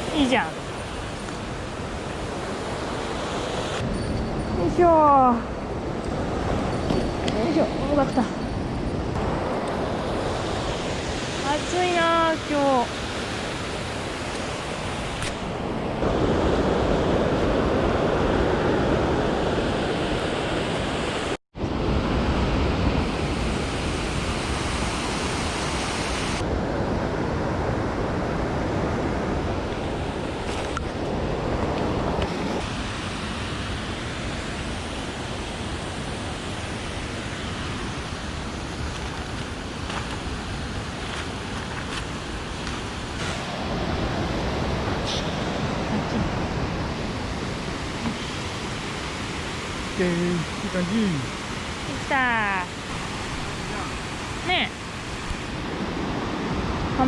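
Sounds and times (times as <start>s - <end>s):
rushing mountain stream: 0.0s - 57.0s.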